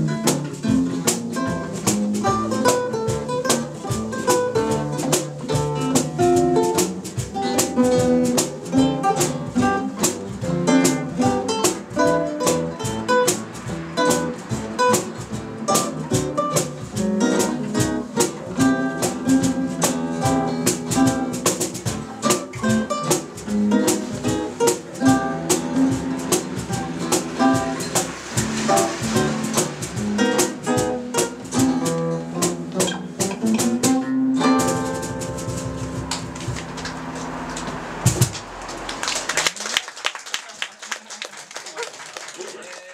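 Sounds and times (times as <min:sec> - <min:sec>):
guitars and bass playing: 0:00.0 - 0:39.4.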